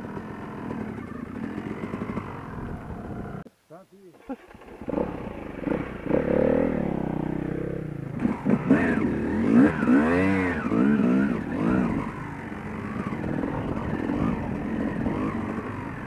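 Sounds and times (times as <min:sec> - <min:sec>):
dirt bike engine revving: 0:00.0 - 0:03.4, 0:04.2 - 0:16.0.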